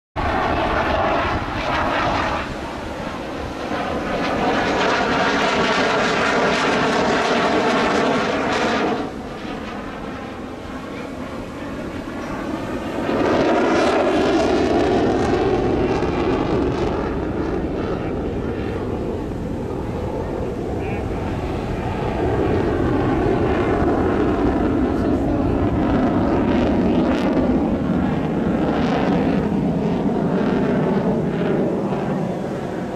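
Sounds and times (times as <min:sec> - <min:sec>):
jet roar: 0:00.2 - 0:32.9.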